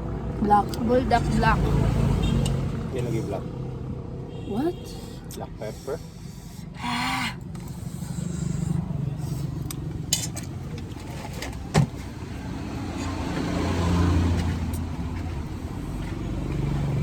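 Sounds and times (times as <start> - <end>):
vehicle engine passing: 0.0 - 6.2, 7.4 - 17.0.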